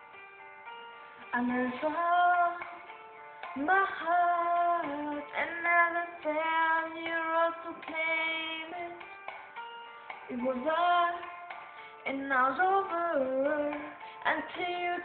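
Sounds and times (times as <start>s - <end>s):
instrumental backing track: 0.0s - 15.0s
woman singing pop ballad: 1.2s - 9.4s, 10.1s - 15.0s.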